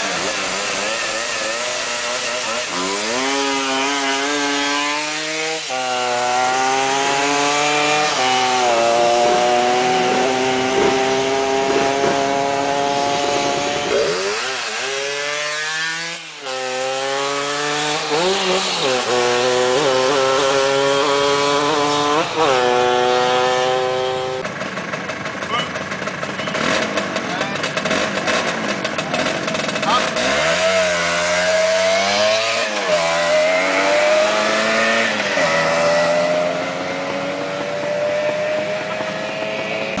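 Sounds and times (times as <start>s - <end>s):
scooter engine revving: 0.0s - 40.0s.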